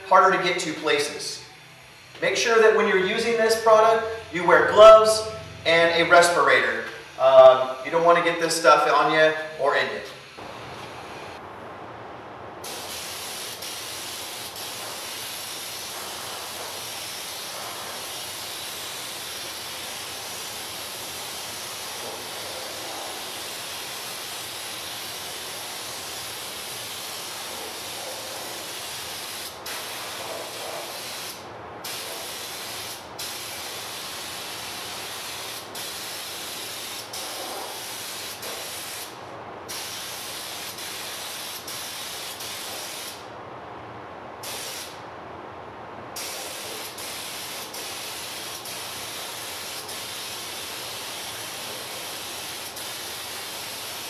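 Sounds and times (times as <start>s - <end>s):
spray gun hissing: 0.0s - 10.5s, 12.6s - 43.3s, 44.4s - 45.0s, 46.2s - 54.0s.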